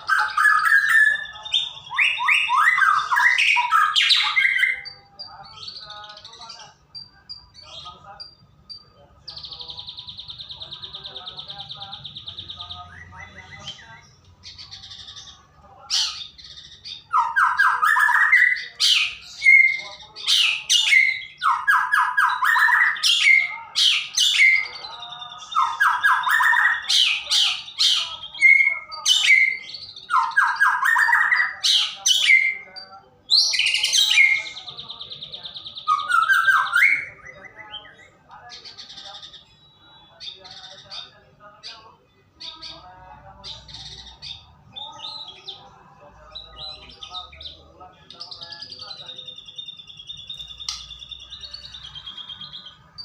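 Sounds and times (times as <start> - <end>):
bird singing trills and whistles: 0.0 - 41.8, 46.4 - 53.0.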